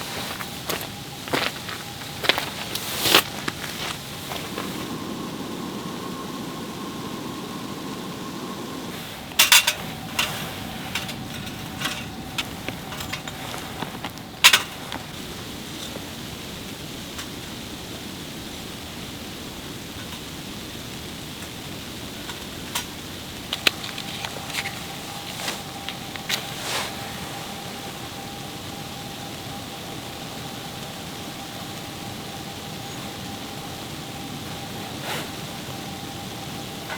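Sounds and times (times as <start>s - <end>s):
camp dishes and utensils clinking: 0.0s - 5.1s, 8.8s - 17.6s, 19.9s - 20.6s, 21.3s - 36.9s
steady rushing noise: 0.0s - 36.9s.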